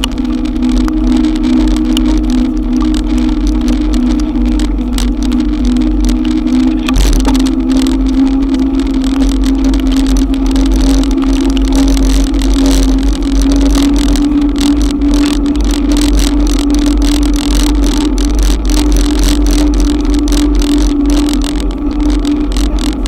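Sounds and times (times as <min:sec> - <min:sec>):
electric bike motor whine: 0:00.0 - 0:23.0
low rumble: 0:00.0 - 0:23.0
rain and spray crackling: 0:00.0 - 0:23.0.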